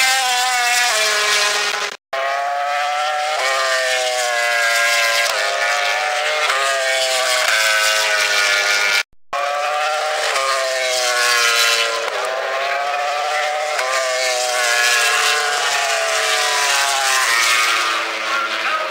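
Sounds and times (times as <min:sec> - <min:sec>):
racing motorcycle engines revving: 0:00.0 - 0:18.9.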